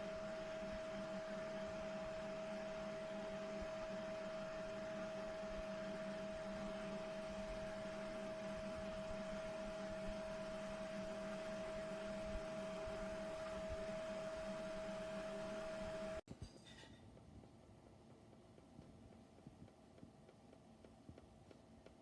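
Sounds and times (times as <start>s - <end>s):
small fan humming and whining: 0.0s - 22.0s.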